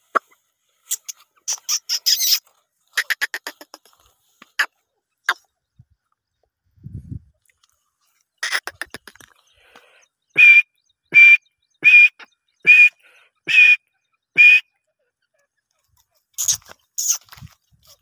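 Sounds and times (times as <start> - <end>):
loud bird calls: 0.0 - 6.5, 7.8 - 18.0.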